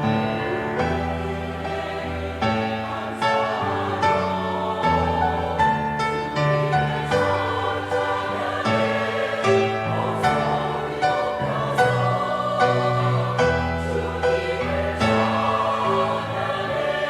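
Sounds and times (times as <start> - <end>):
church choir singing: 0.0 - 17.0.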